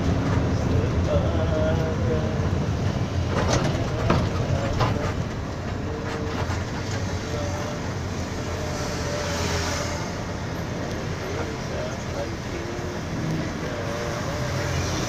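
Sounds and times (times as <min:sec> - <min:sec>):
bus body rattling: 0:00.0 - 0:15.0
bus engine and tyres rumbling: 0:00.0 - 0:15.0.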